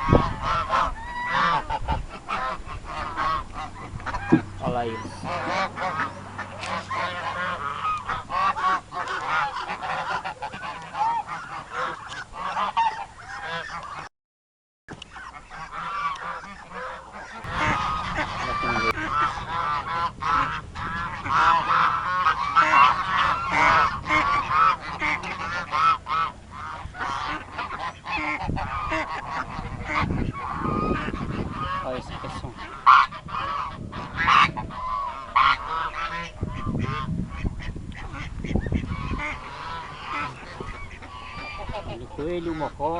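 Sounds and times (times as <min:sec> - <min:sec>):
geese honking: 0:00.0 - 0:14.1, 0:14.9 - 0:42.9.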